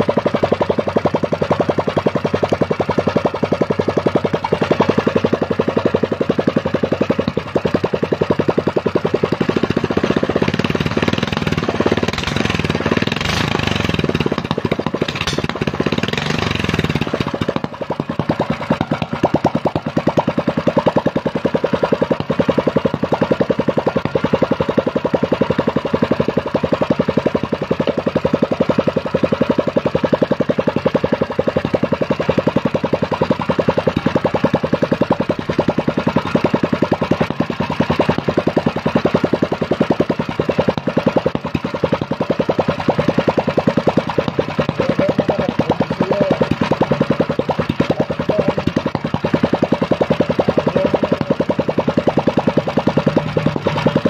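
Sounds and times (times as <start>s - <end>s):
small petrol engine idling: 0.0s - 54.0s.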